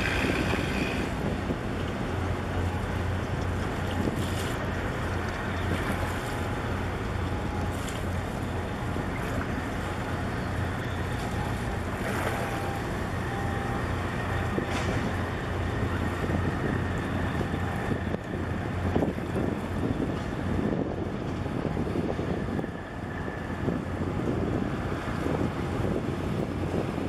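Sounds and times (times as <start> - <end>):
boat engine rumble: 0.0 - 27.0
wind buffeting microphone: 0.0 - 27.0.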